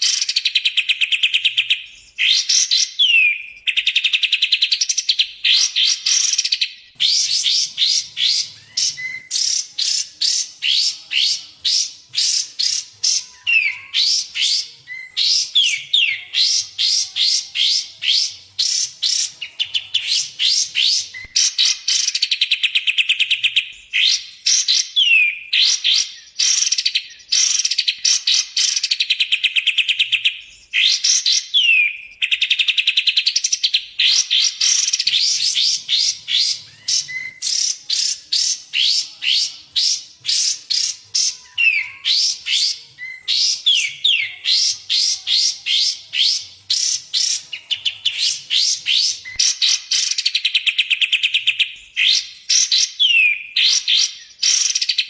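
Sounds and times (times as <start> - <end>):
songbird whistles and trills: 0.0 - 55.0.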